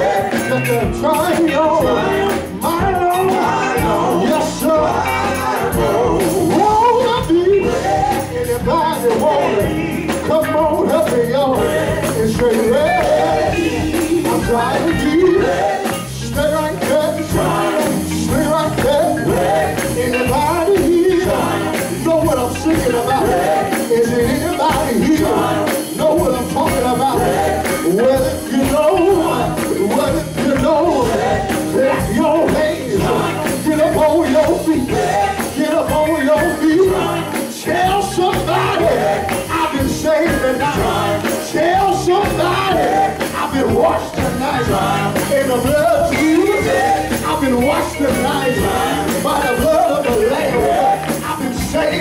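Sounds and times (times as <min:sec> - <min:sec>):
drum kit: 0:00.0 - 0:52.0
electric bass: 0:00.0 - 0:52.0
keyboard: 0:00.0 - 0:52.0
men singing gospel: 0:00.0 - 0:52.0.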